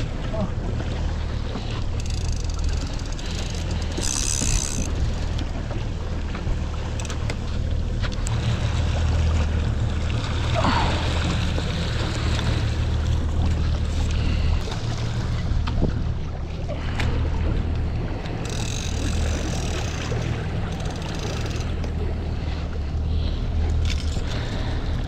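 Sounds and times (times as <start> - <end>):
outboard motor droning: 0.0 - 25.0
wind and water rushing: 0.0 - 25.0.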